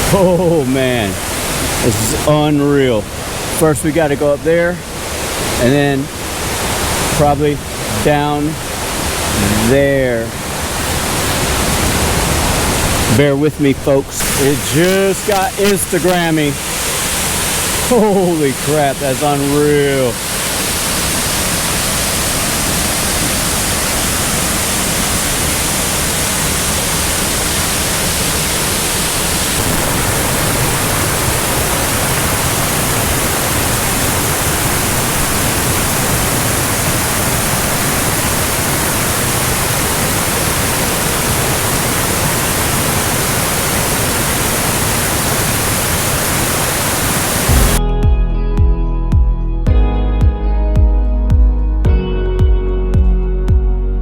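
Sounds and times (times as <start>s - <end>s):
waterfall pouring: 0.0s - 47.8s.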